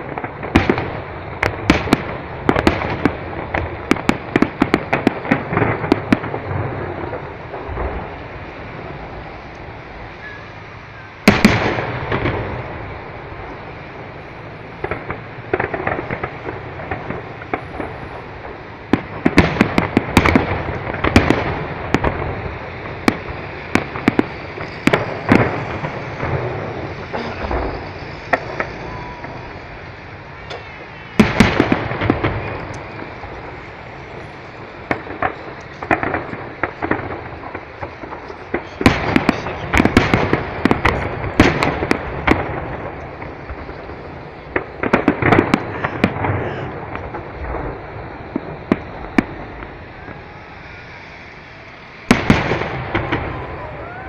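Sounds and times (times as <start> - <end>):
fireworks bursting in bangs: 0.0 - 54.0
fireworks crackling: 0.0 - 54.0.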